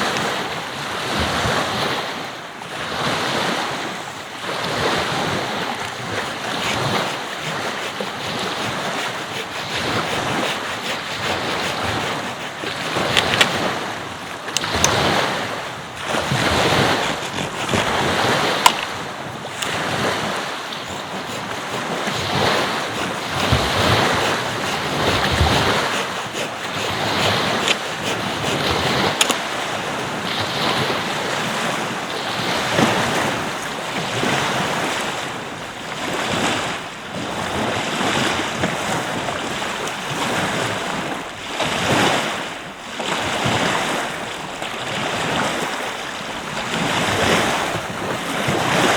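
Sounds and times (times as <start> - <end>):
ocean surf breaking: 0.0 - 48.9
wind buffeting microphone: 2.9 - 42.4.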